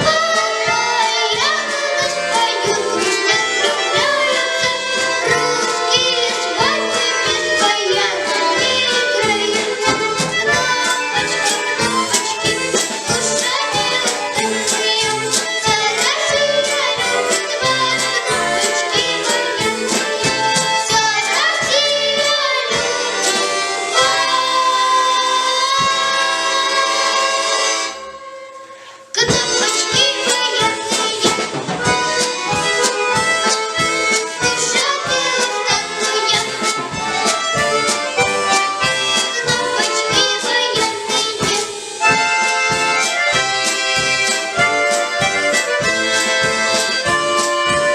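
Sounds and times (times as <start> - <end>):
accordion orchestra playing chords: 0.0 - 47.9.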